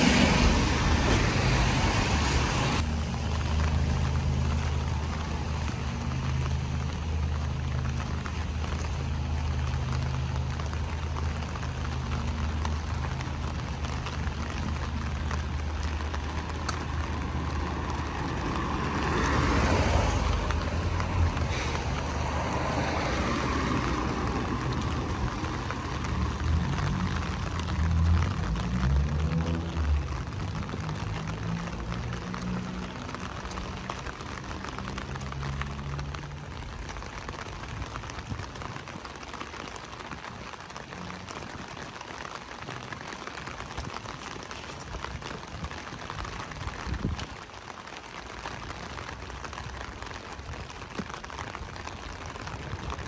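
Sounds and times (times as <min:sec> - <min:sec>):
light rain hissing: 0:00.0 - 0:53.0
low traffic hum: 0:00.0 - 0:53.0
tyres swishing on wet road: 0:00.0 - 0:53.0.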